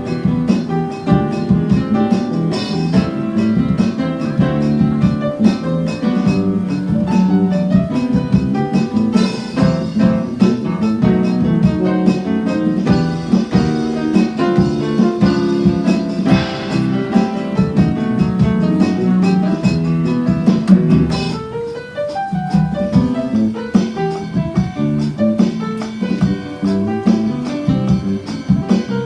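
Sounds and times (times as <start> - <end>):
acoustic guitar plucking: 0.0 - 29.0.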